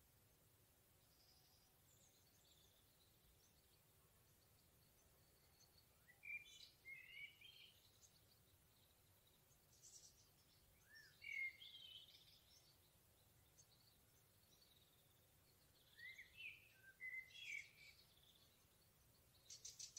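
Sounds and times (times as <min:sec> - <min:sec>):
faint steady hiss: 0:00.0 - 0:19.9
songbirds chirping and whistling: 0:01.0 - 0:19.9.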